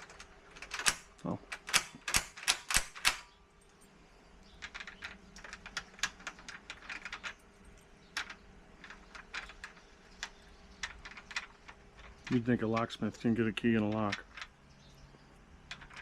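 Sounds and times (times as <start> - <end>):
key clicking and scraping in lock: 0.0 - 3.3, 4.4 - 12.9, 13.7 - 14.6, 15.6 - 16.0.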